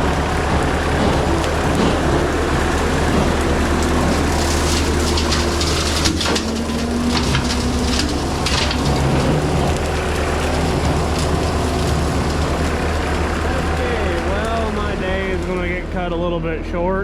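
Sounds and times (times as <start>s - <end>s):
diesel engine running under load: 0.0s - 17.0s
brush being shredded: 0.8s - 16.1s.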